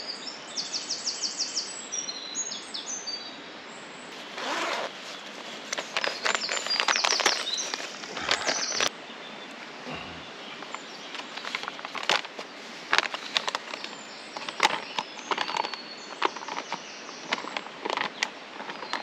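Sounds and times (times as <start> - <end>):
birds singing: 0.0 - 19.0
steady outdoor hiss: 0.0 - 19.0.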